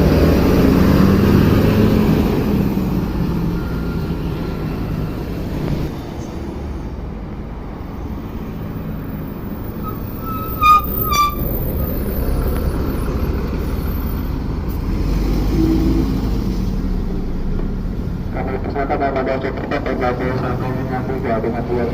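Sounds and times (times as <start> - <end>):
bus engine rumbling: 0.0 - 21.9.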